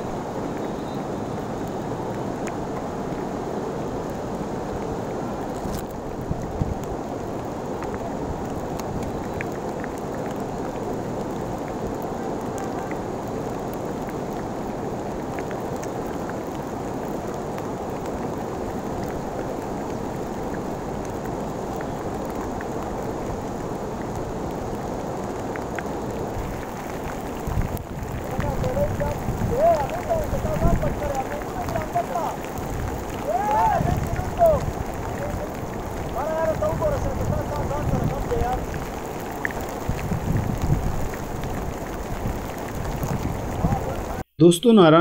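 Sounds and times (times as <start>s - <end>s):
steady rain falling: 0.0s - 44.4s.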